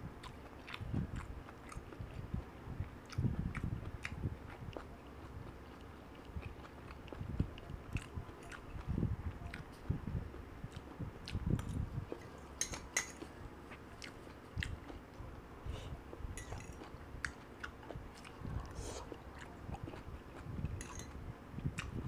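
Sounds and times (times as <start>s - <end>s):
person chewing food: 0.2s - 15.2s, 16.1s - 22.0s.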